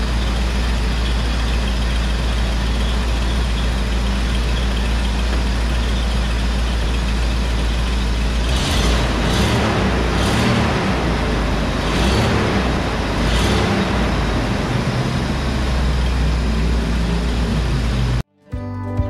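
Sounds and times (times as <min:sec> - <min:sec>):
car engine idling: 0:00.0 - 0:18.2
low hum: 0:00.0 - 0:19.0.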